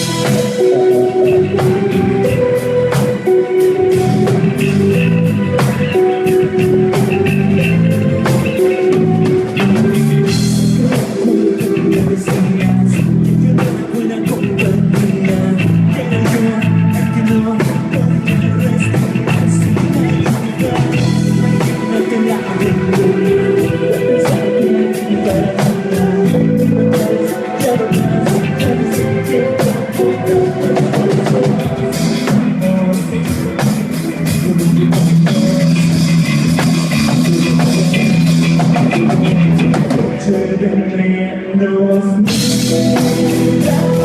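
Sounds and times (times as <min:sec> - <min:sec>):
sustained guitar notes: 0:00.0 - 0:16.0, 0:16.6 - 0:41.4, 0:42.3 - 0:44.0
drum kit steady beat: 0:00.0 - 0:40.3, 0:42.3 - 0:44.0.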